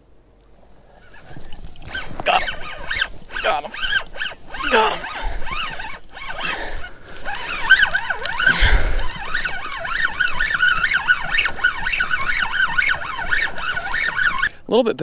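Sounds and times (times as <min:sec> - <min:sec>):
fishing reel whirring: 0:00.8 - 0:14.7.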